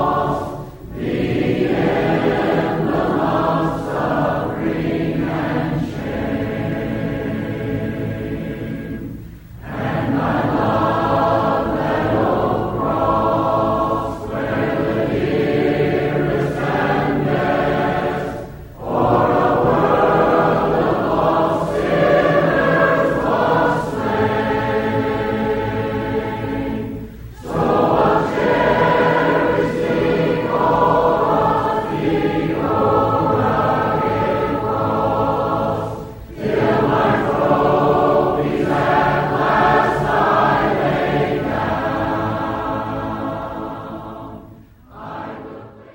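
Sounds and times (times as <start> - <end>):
group singing a hymn: 0.0 - 45.9.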